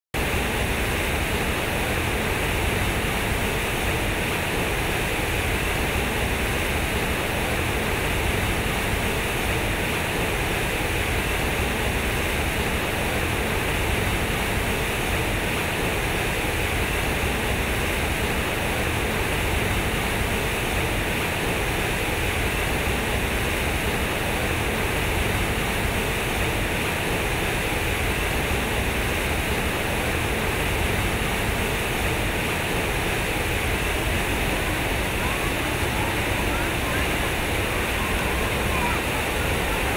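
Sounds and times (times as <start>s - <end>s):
fountain water rushing and splashing: 0.2s - 39.9s.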